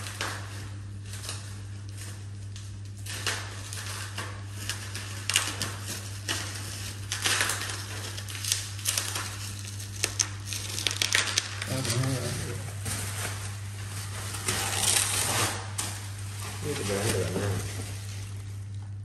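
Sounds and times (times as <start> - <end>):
clothing and plastic rustling: 0.0 - 19.0
steady low hum: 0.0 - 19.0.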